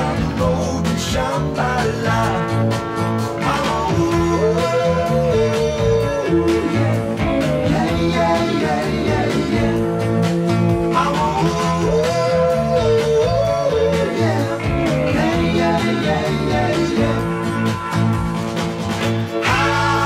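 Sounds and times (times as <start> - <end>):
rock band playing: 0.0 - 20.0
sliding lead guitar line: 0.0 - 20.0.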